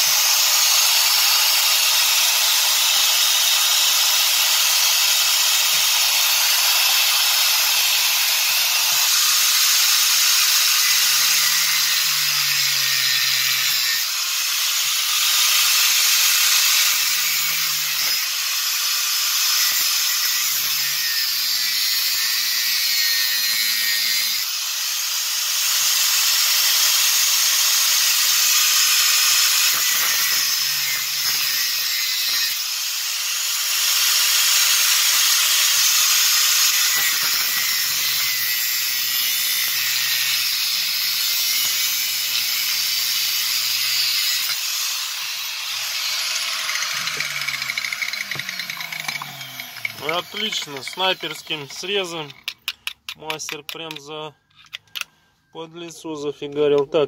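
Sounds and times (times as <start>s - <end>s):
angle grinder cutting metal: 0.0s - 55.1s.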